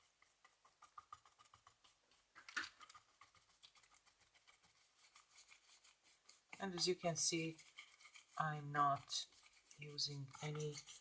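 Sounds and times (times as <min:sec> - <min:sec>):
bristly brush scrape: 0:00.0 - 0:11.0
paintbrush dabbing and brushing: 0:00.0 - 0:11.0.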